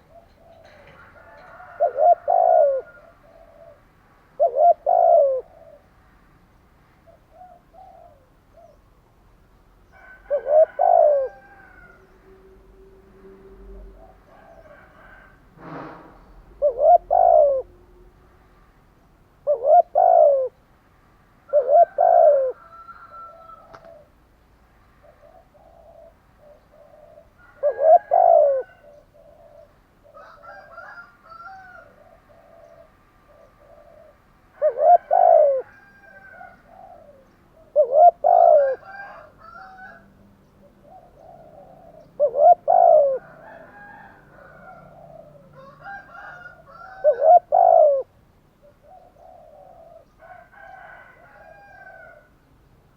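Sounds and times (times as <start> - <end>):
dove cooing: 0.0 - 6.0, 7.0 - 8.8, 9.9 - 15.5, 16.4 - 18.2, 19.4 - 20.6, 21.5 - 24.2, 25.0 - 52.3.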